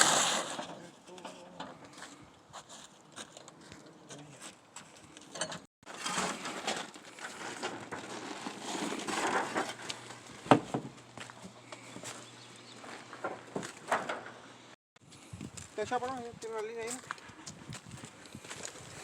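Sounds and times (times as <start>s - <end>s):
roof tiles crunching and scraping: 0.0s - 19.0s.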